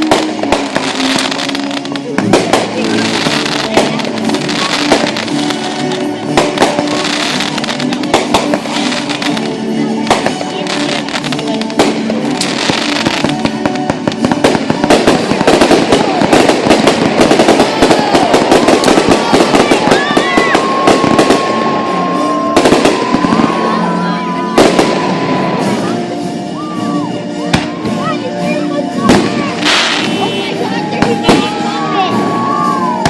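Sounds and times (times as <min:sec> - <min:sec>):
fireworks crackling: 0:00.0 - 0:33.0
music playing: 0:00.0 - 0:33.0.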